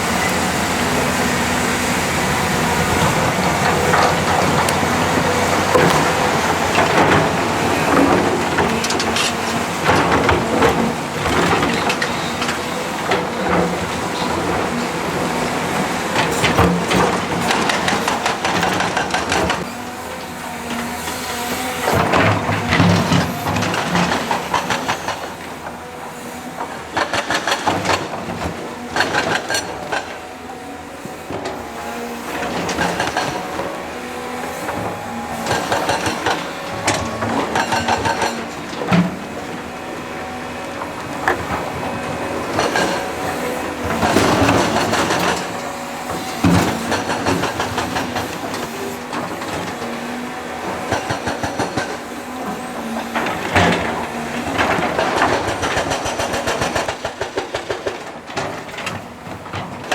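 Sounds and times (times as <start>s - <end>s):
diesel engine running: 0.0s - 57.1s.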